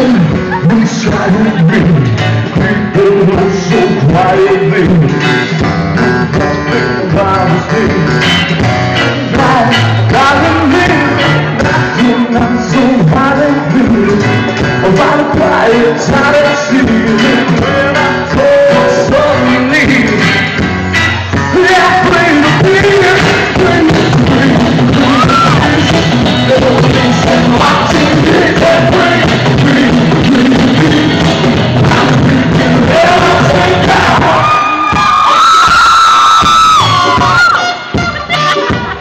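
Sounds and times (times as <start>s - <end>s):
lead singer singing: 0.0s - 37.6s
live rock band: 0.0s - 39.0s.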